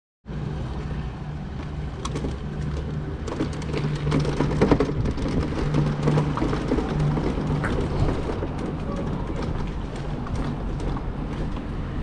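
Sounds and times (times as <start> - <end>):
gritty crackling noise: 0.6 - 12.0
motorcycle engine running: 0.8 - 12.0.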